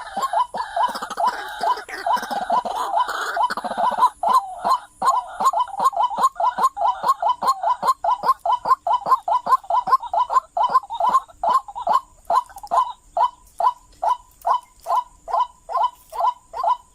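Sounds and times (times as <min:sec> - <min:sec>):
waterhen calling: 0:00.0 - 0:16.9.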